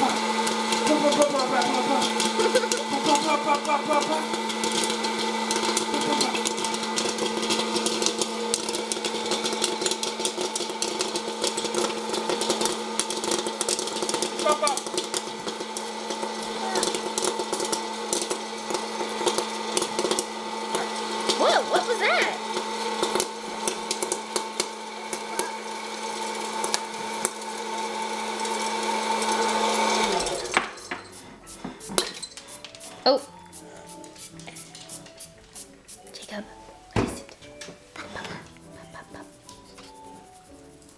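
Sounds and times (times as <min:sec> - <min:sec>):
corn kernels popping: 0:00.0 - 0:33.3
popcorn popper fan humming: 0:00.0 - 0:36.4.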